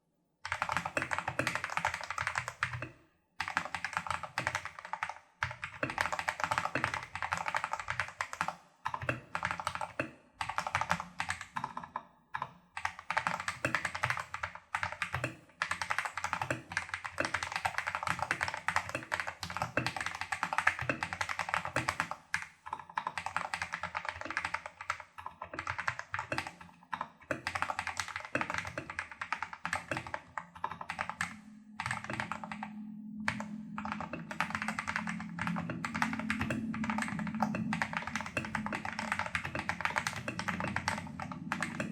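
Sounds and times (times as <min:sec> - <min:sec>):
fast typing on mechanical keyboard: 0:00.5 - 0:41.9.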